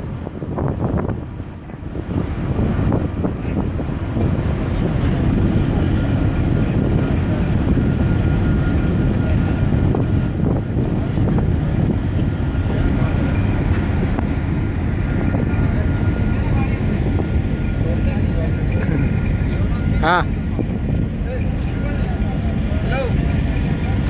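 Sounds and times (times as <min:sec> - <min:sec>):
steady low rumble: 0:00.0 - 0:24.0
wind buffeting microphone: 0:00.0 - 0:24.0.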